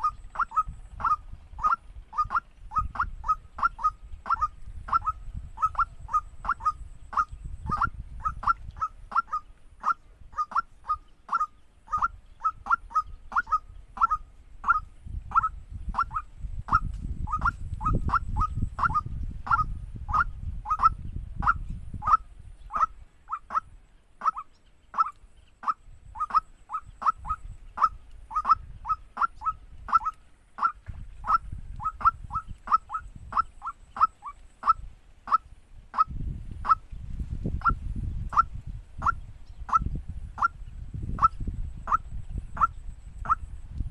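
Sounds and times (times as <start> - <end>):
waterhen calling: 0.0 - 43.5.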